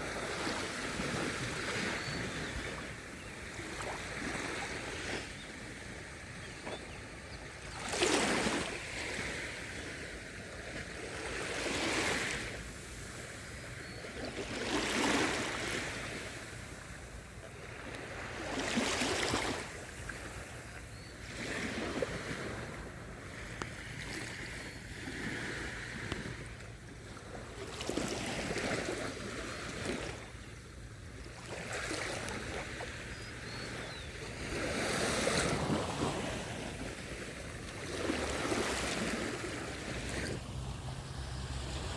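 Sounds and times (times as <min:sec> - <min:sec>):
sea waves breaking on sand: 0:07.6 - 0:13.5, 0:14.2 - 0:41.9.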